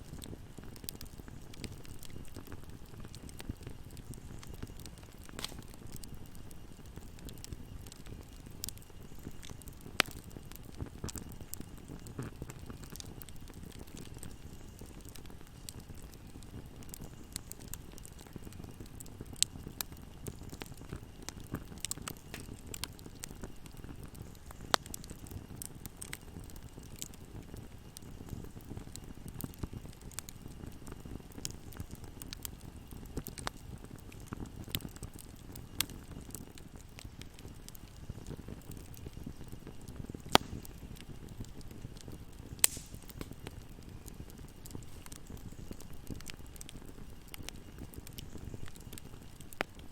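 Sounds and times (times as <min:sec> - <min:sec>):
fire crackling and popping: 0:00.0 - 0:49.9
fire flames rustling: 0:00.0 - 0:49.9.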